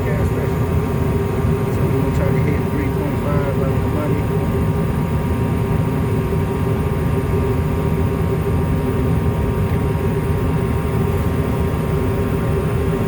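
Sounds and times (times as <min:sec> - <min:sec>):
constant hum: 0:00.0 - 0:13.0
gas furnace flame rumble: 0:00.0 - 0:13.0.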